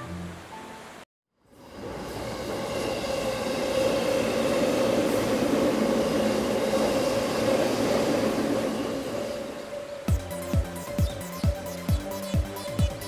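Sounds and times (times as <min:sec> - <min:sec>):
electric train running on track: 0:01.4 - 0:13.0.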